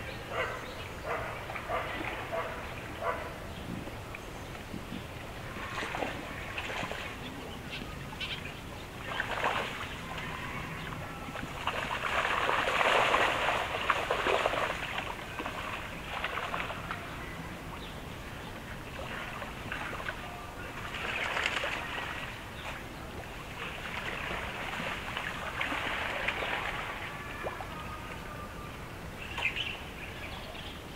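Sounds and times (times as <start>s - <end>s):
water splashing and sloshing: 0.0s - 30.9s.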